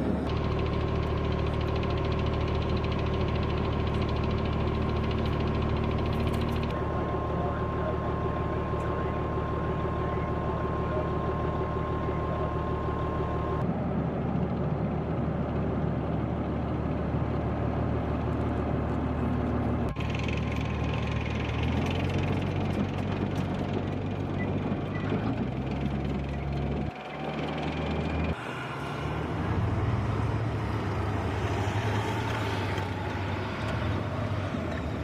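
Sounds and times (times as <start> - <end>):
tank engine and running gear: 0.0 - 35.0.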